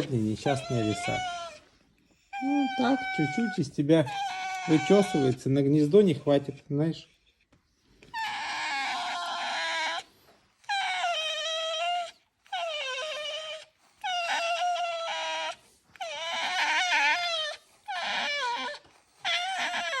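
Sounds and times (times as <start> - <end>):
fox squealing: 0.0 - 5.5, 8.1 - 20.0.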